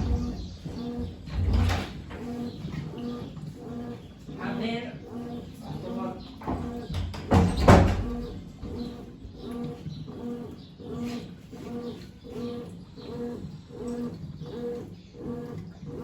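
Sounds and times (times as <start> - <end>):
washing machine agitating: 0.0 - 16.0.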